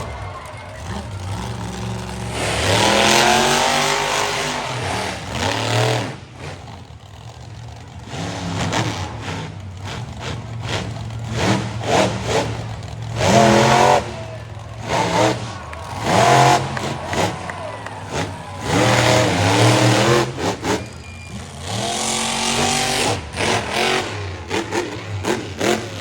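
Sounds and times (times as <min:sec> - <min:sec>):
engine crackles: 0:00.0 - 0:26.0
truck engine revving: 0:00.0 - 0:26.0.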